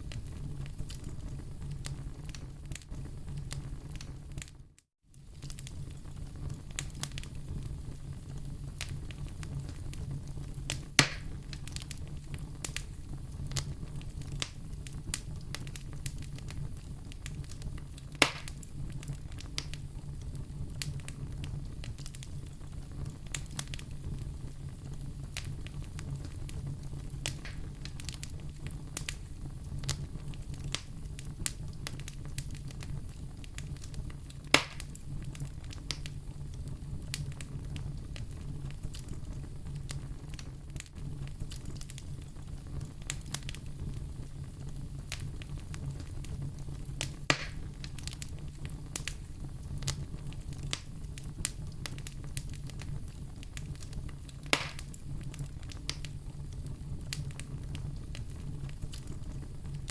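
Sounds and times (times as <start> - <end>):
wood fire crackling: 0.0 - 59.9
sharp pops from fire: 0.1 - 59.9.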